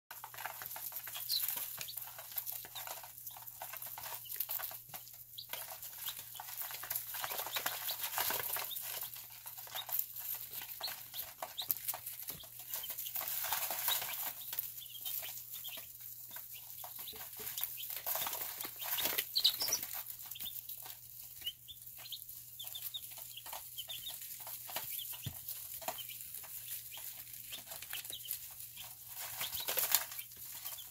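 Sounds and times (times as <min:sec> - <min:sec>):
chicks peeping: 0:00.1 - 0:30.9.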